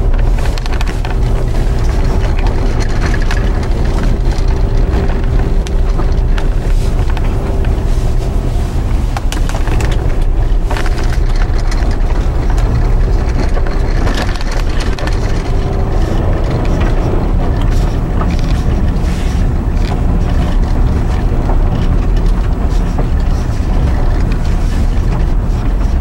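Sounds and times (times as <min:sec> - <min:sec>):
snow crunching and crackling: 0:00.0 - 0:26.0
tyres rumbling on snowy road: 0:00.0 - 0:26.0.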